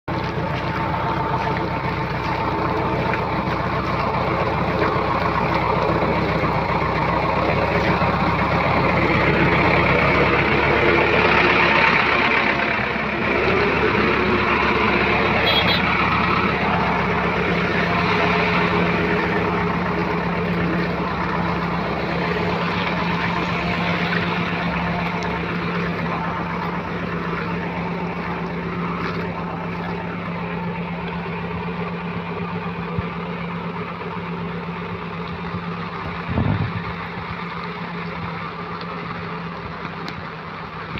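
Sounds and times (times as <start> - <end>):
vehicle engine humming: 0.0 - 40.9.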